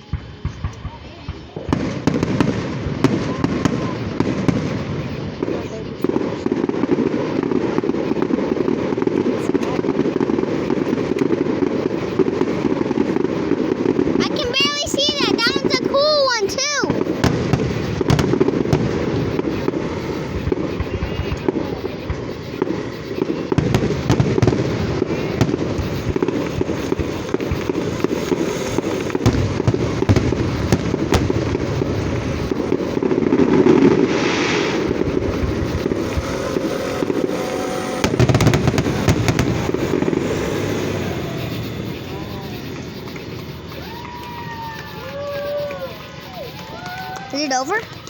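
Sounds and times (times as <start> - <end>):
fireworks crackling and popping: 0.0 - 48.0.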